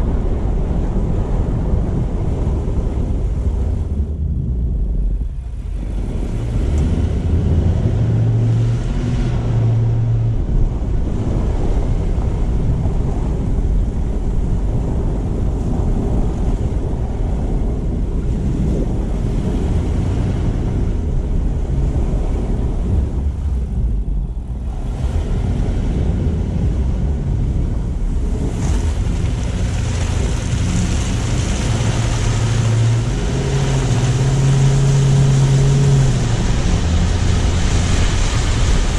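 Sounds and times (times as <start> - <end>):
car engine hum: 0.0 - 38.9
tyre noise on road: 0.0 - 38.9.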